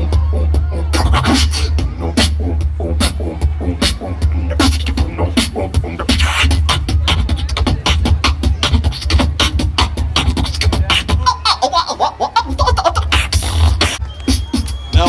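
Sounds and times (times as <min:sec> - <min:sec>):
beatboxing over a pa: 0:00.0 - 0:15.0
deep steady bass: 0:00.0 - 0:15.0.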